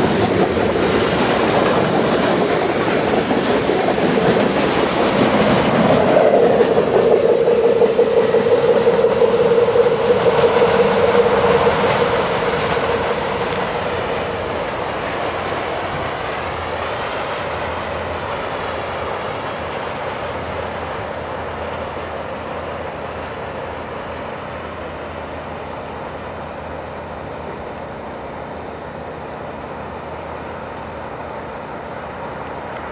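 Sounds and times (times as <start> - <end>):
train wheels rumbling on rail: 0.0 - 32.9.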